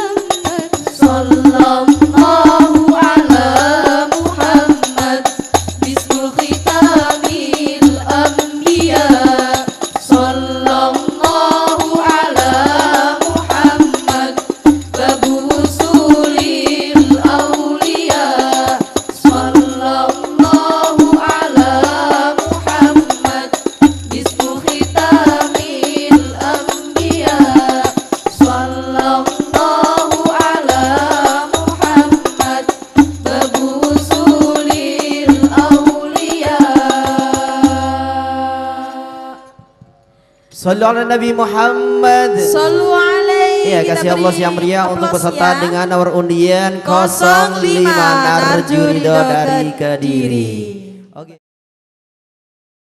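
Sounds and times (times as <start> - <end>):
frame drums fast rhythm: 0.0 - 38.4, 42.1 - 49.8
voices singing a chant: 0.0 - 39.8, 40.5 - 51.2.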